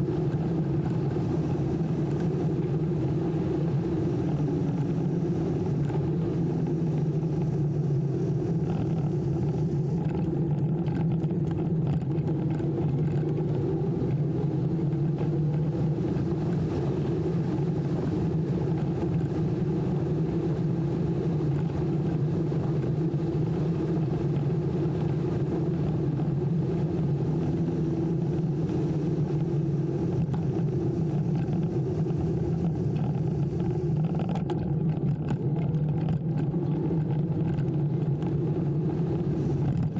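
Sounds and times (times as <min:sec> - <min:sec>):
electric bike motor humming: 0:00.0 - 0:39.9
wind noise: 0:00.0 - 0:39.9.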